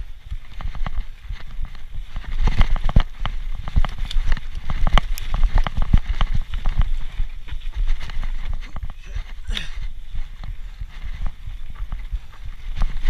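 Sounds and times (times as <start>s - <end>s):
bike knocks and rattles: 0.0s - 13.0s
low rumble of tyres and wind: 0.0s - 13.0s.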